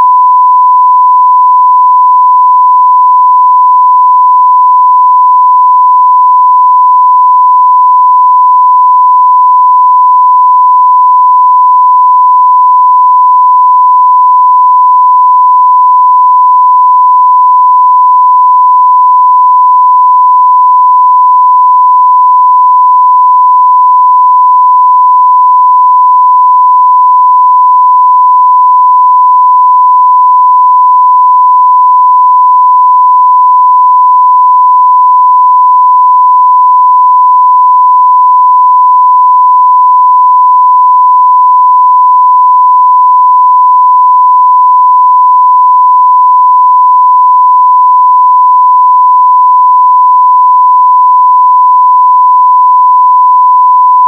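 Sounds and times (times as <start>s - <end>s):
sine wave test tone: 0.0s - 54.0s.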